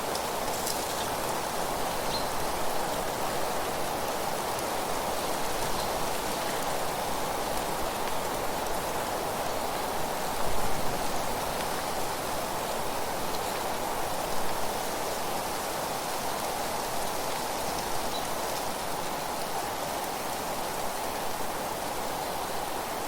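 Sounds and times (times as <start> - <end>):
wind rustling through leaves: 0.0 - 23.0.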